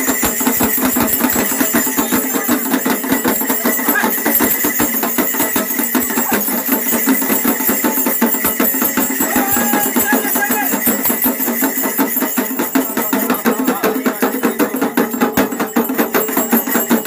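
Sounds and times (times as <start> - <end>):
fast clattering percussion: 0.0 - 17.0.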